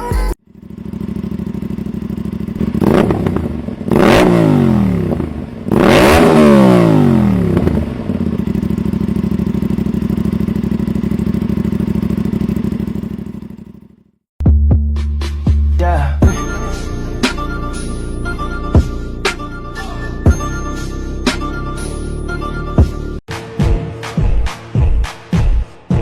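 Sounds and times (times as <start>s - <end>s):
motorcycle engine idling and revving: 0.0s - 23.2s.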